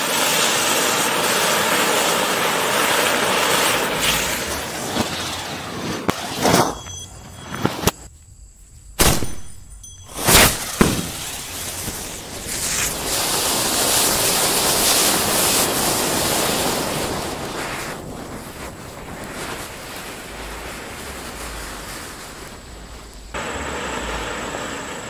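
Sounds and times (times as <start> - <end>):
fountain fireworks hissing: 0.0 - 6.7, 10.1 - 25.0.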